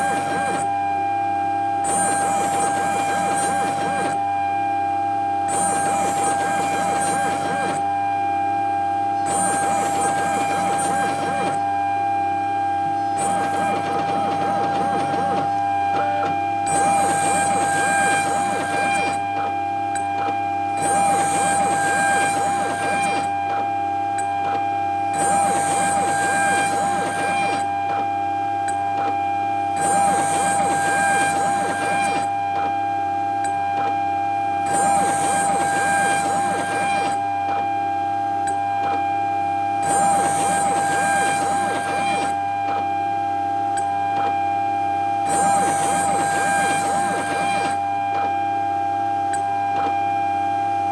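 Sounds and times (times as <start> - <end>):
cnc spindle whining: 0.0 - 50.9.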